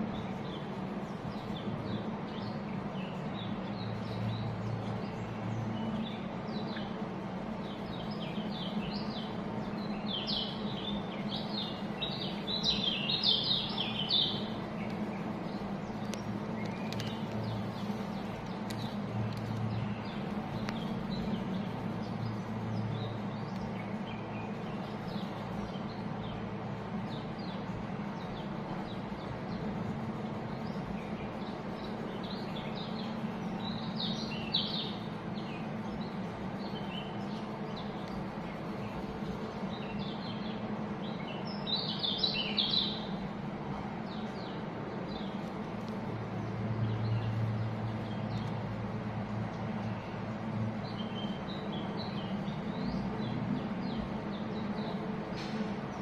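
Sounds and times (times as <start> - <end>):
flock of birds chirping: 0.0 - 56.0
steady low hum: 0.0 - 56.0.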